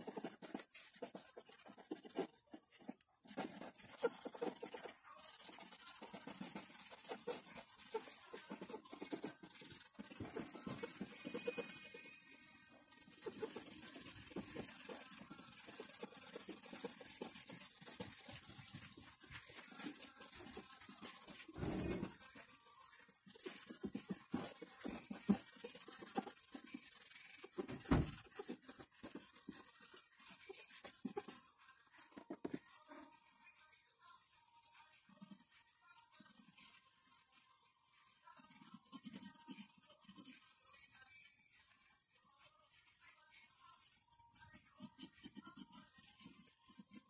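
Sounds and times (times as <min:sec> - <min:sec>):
pencil scratching on paper: 0:00.0 - 0:47.0.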